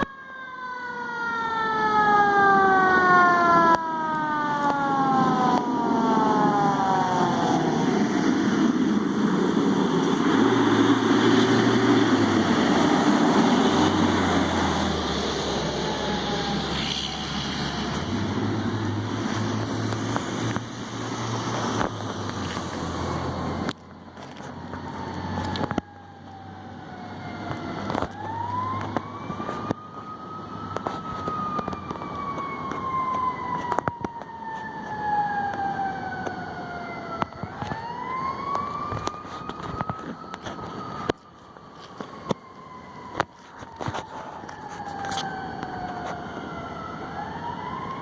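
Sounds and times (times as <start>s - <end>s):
fire truck siren: 0.0s - 48.0s.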